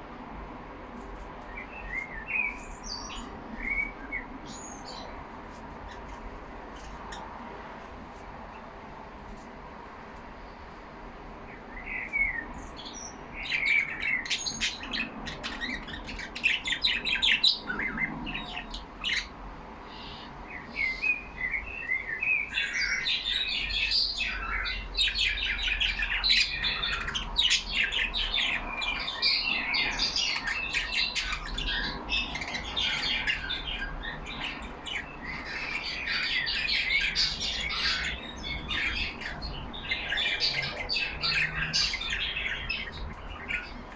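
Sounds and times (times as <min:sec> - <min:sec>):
budgerigars chirping and squawking: 0:01.6 - 0:07.4, 0:11.9 - 0:21.2, 0:21.9 - 0:43.9.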